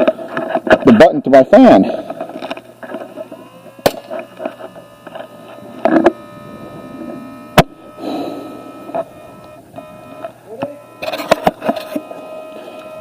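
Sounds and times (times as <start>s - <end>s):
small fan motor whine: 0.0s - 13.0s.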